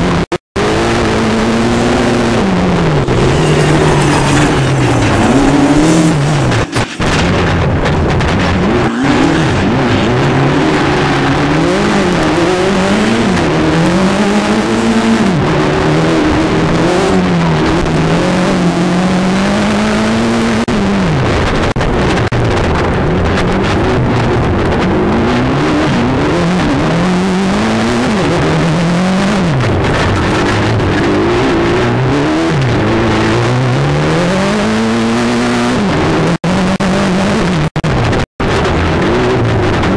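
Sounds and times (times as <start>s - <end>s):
engine revving in a car: 0.0s - 39.9s
steady rush of noise: 0.0s - 39.9s.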